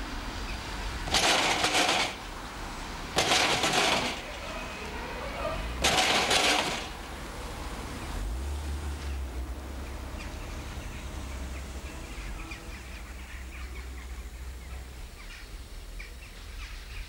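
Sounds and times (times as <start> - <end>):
birds chirping: 0.3 - 17.0.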